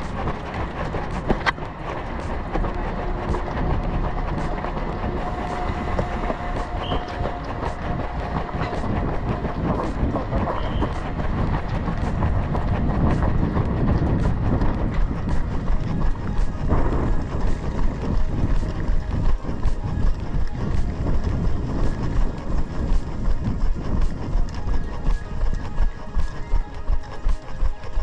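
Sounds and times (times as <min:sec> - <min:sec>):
running footsteps: 0:00.0 - 0:28.0
wind on microphone: 0:00.0 - 0:28.0.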